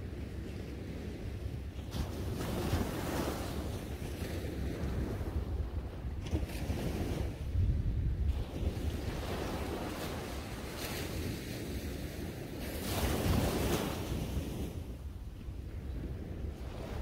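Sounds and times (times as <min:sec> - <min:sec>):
waves washing up beach: 0:00.0 - 0:17.0
wind rumbling on microphone: 0:00.0 - 0:17.0.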